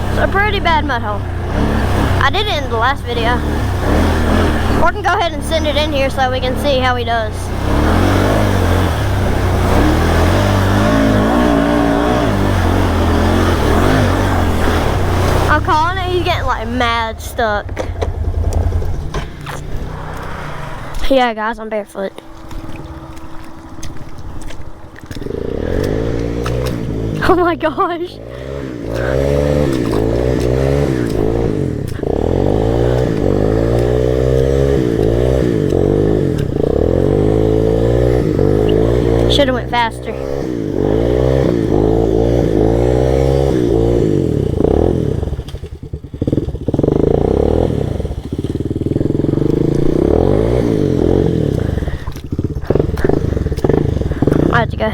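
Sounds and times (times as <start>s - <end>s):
atv engine revving hard: 0.0s - 23.2s, 25.0s - 54.9s.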